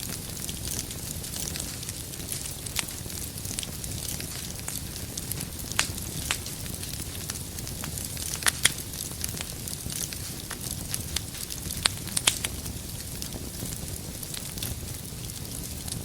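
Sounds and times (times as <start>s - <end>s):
fire rumble and hiss: 0.0s - 16.0s
firewood crackling and popping: 0.0s - 16.0s.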